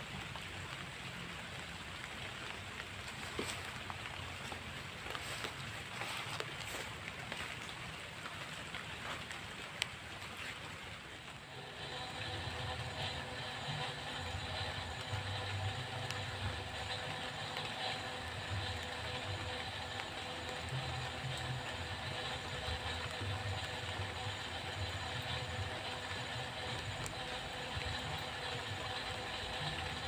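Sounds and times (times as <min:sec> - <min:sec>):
rain falling: 0:00.0 - 0:30.0
motor engine running: 0:00.4 - 0:09.7, 0:11.2 - 0:30.0.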